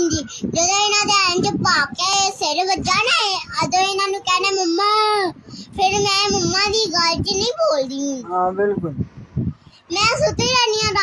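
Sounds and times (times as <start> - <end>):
young child singing: 0.0 - 8.2, 9.9 - 11.0.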